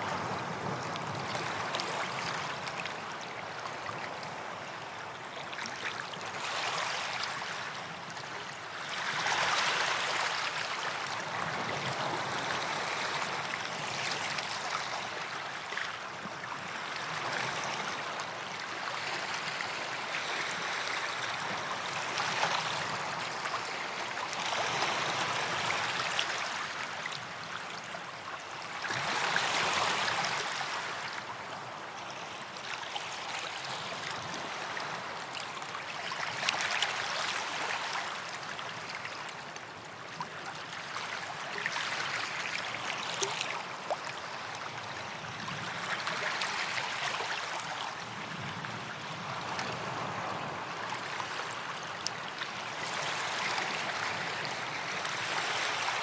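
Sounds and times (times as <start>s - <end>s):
small waves washing up a beach: 0.0s - 56.0s.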